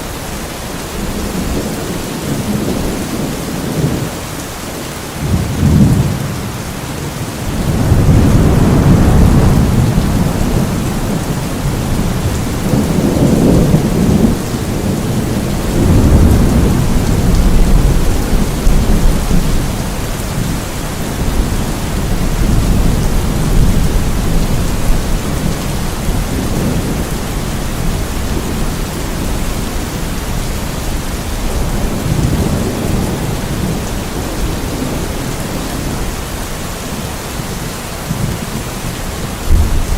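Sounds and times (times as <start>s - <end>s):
steady rain: 0.0s - 39.9s
low rolling thunder: 5.2s - 36.2s, 37.0s - 39.9s.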